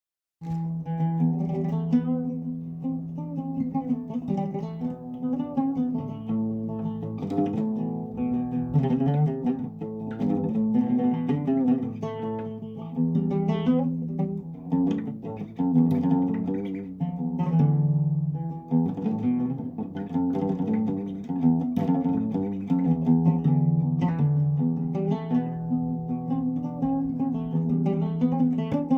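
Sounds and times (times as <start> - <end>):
plucked string instrument: 0.4 - 28.9.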